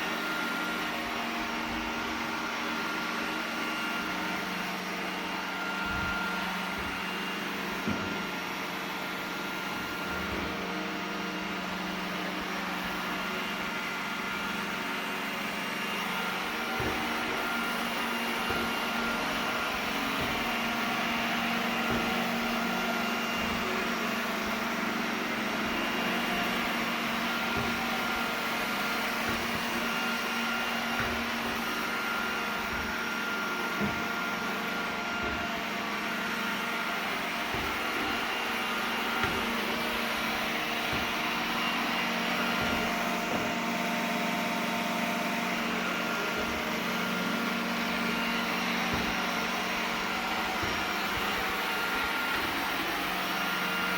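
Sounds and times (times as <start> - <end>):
robot vacuum humming: 0.0 - 53.9.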